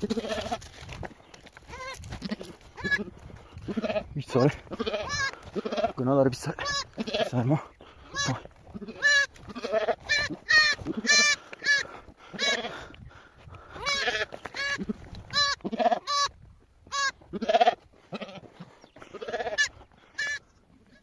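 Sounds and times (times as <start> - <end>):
sheep bleating: 0.0 - 0.7, 1.7 - 12.9, 13.8 - 21.0.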